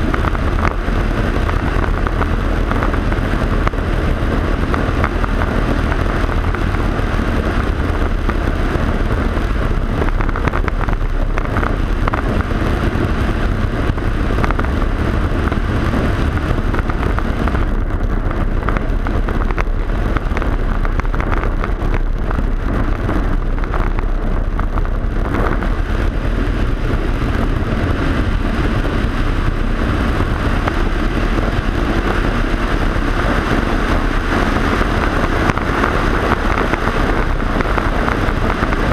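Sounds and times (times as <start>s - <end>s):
plane propeller engine running: 0.0s - 38.9s
rushing wind: 0.0s - 38.9s.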